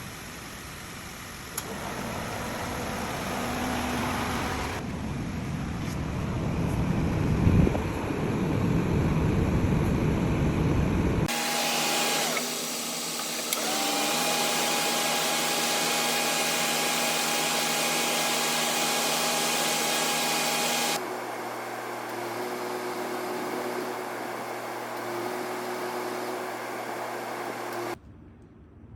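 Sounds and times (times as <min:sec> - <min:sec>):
air rushing from blower: 0:00.0 - 0:28.0.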